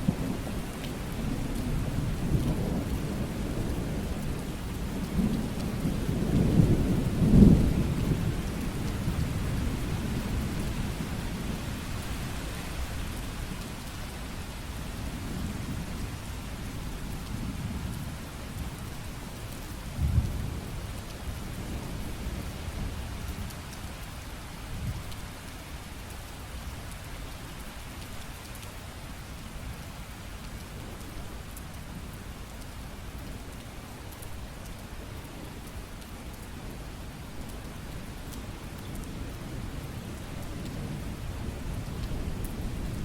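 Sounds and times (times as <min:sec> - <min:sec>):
low rumble of thunder: 0:00.0 - 0:25.2, 0:29.2 - 0:43.0
steady rain falling: 0:00.0 - 0:43.0.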